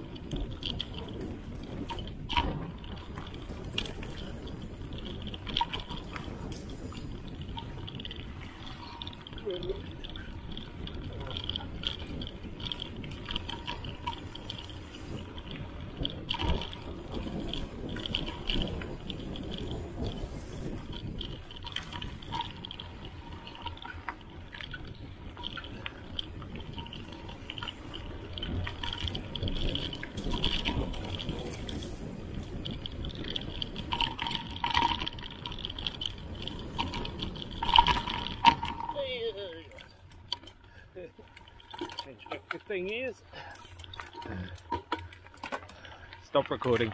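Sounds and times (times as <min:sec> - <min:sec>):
bike rattling over bumps: 0:00.0 - 0:46.9
bike tyres on dirt trail: 0:00.0 - 0:46.9.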